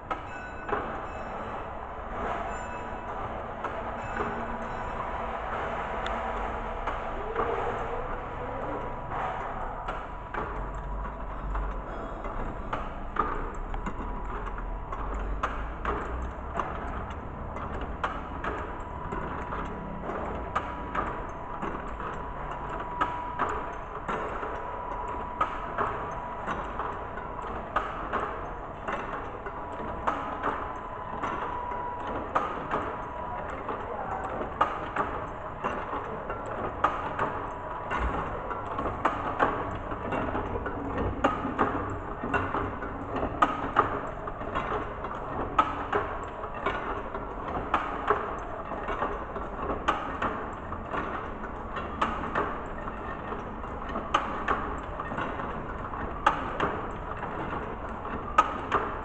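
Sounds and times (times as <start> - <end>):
machine clattering: 0.0 - 59.0.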